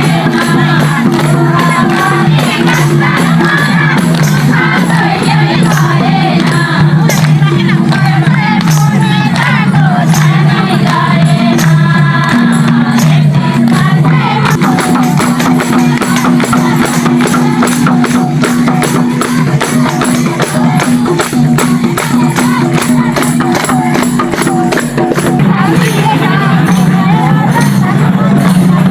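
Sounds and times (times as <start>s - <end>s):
folk music with singing voice: 0.0s - 28.9s
jingling percussion beat: 0.0s - 28.9s.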